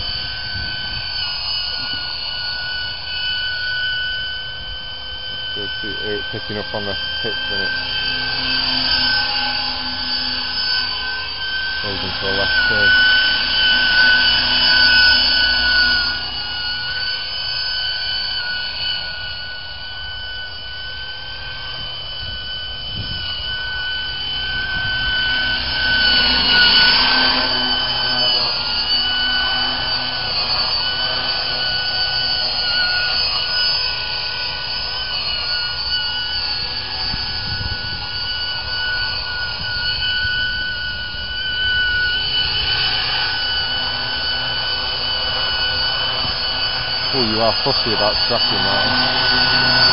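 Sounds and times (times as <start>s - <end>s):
model helicopter high-pitched whine: 0.0s - 49.9s.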